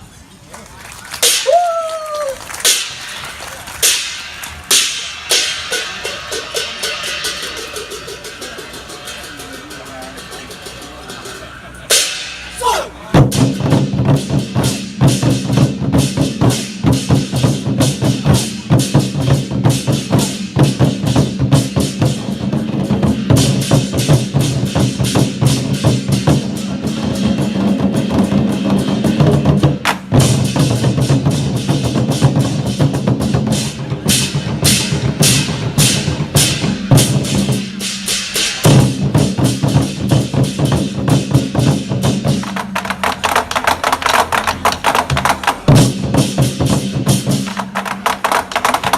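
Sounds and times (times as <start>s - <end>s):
war drums beaten in rolls: 1.2s - 48.9s.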